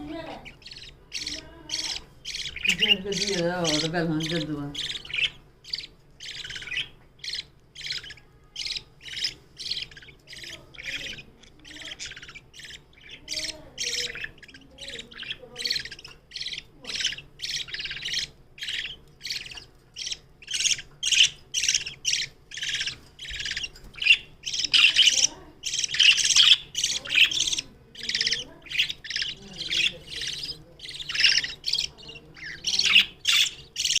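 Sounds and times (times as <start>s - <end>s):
budgerigar chicks begging calls: 0.0s - 34.0s.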